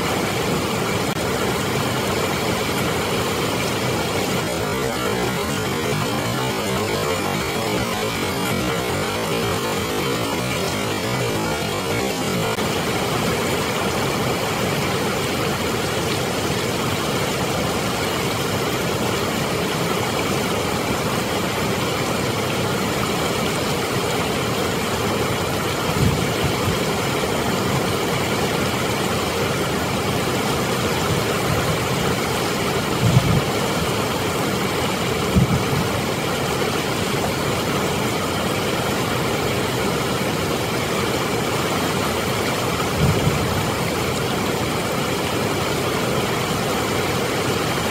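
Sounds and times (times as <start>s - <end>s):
water roaring over spillway: 0.0s - 47.9s.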